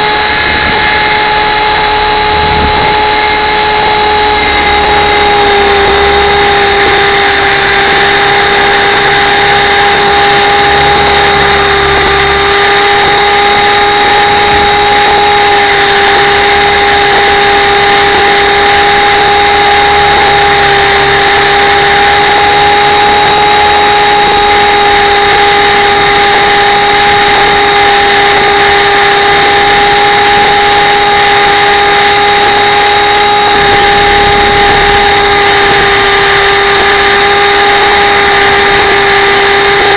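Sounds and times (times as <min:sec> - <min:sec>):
helicopter motor and rotors buzzing: 0:00.0 - 0:39.9.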